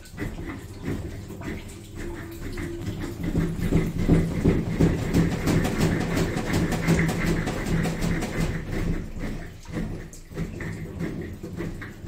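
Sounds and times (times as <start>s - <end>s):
washing machine motor hum: 0.0s - 12.0s
washing machine rattling clatter: 0.0s - 12.0s.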